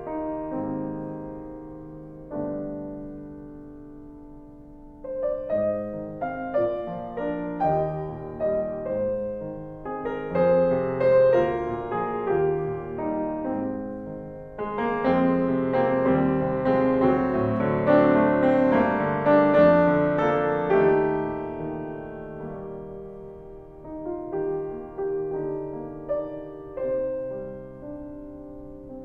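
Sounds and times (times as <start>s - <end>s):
solo piano melody: 0.0s - 29.0s.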